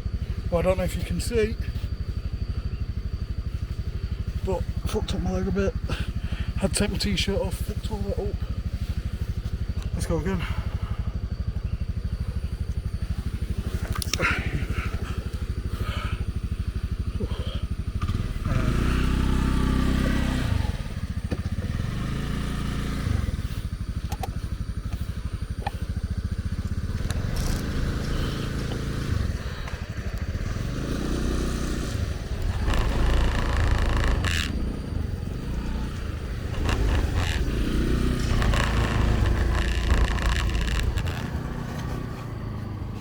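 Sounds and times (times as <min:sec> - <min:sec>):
small motorbike engine revving: 0:00.1 - 0:43.0.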